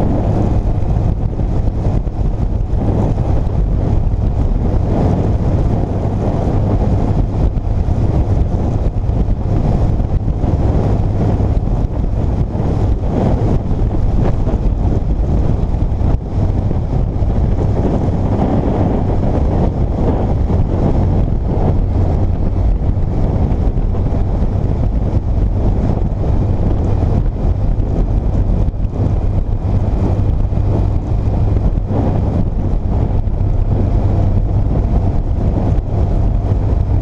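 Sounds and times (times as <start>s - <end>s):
motorcycle engine hum: 0.0s - 37.0s
wind rushing over microphone: 0.0s - 37.0s.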